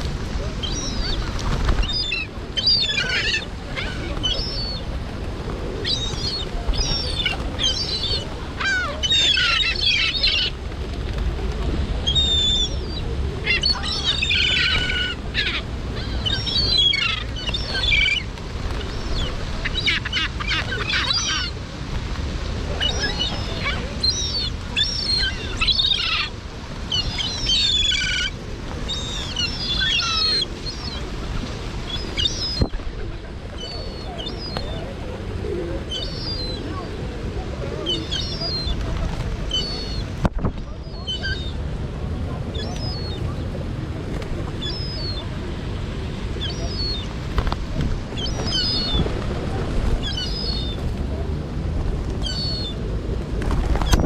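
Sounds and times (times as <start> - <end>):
seagulls calling: 0.0 - 10.6, 12.0 - 21.6, 22.8 - 41.6, 42.4 - 43.5, 44.3 - 45.6, 46.3 - 50.9, 52.2 - 52.9.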